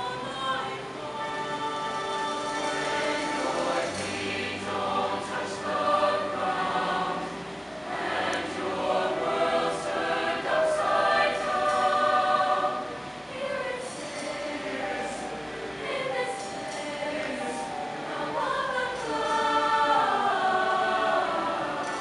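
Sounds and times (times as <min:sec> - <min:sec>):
choir singing in harmony: 0:00.0 - 0:22.0.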